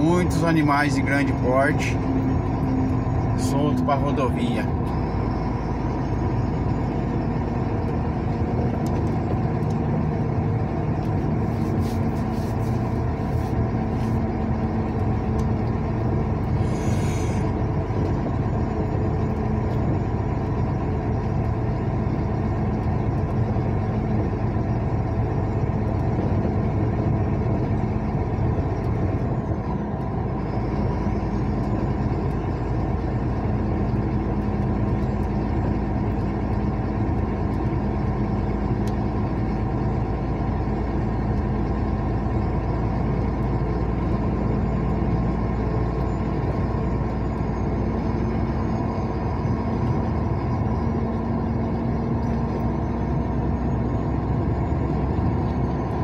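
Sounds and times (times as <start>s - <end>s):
vehicle driving on highway: 0.0s - 56.0s.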